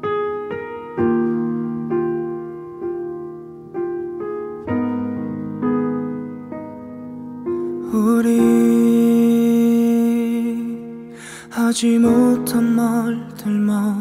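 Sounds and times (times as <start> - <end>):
solo piano ballad: 0.0 - 14.0.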